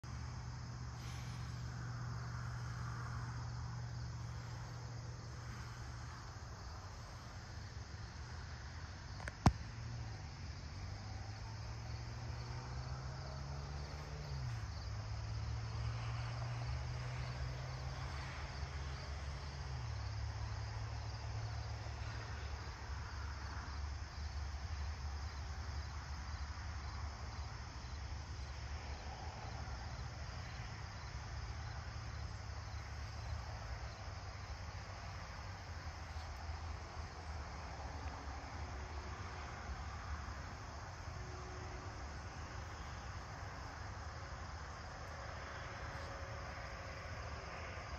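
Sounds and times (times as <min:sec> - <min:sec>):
crickets and insects trilling: 0:00.0 - 0:47.9
distant engine drone: 0:00.0 - 0:47.9.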